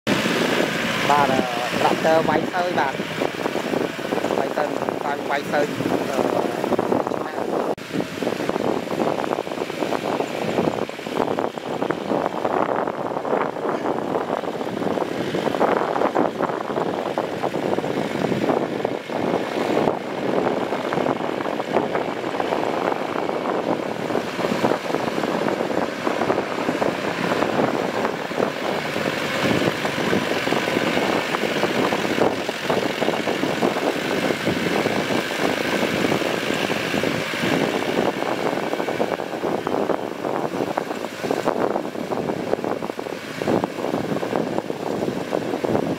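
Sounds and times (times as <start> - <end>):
tractor diesel engine under load: 0.1 - 45.9.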